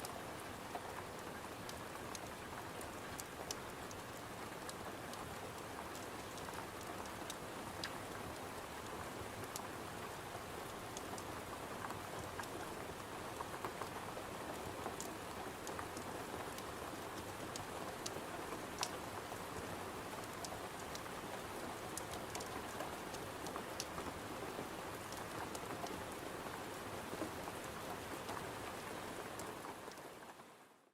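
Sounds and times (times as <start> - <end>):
rain pattering on a window: 0.0 - 30.9.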